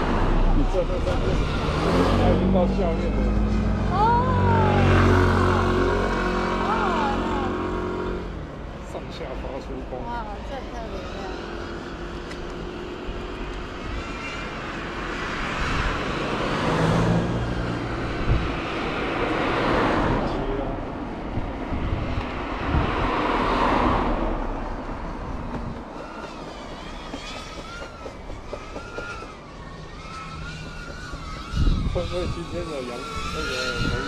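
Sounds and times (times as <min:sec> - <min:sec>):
cars passing: 0:00.0 - 0:34.0.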